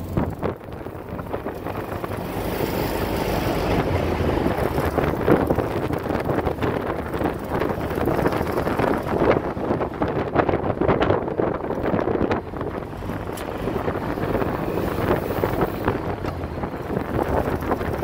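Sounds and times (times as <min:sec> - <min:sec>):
car engine running: 0:00.0 - 0:18.0
road noise: 0:00.0 - 0:18.0
wind buffeting microphone: 0:00.0 - 0:18.0.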